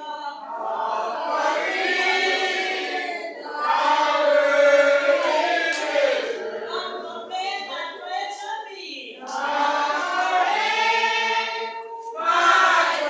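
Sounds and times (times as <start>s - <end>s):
congregation singing: 0.0s - 8.0s, 9.1s - 13.0s.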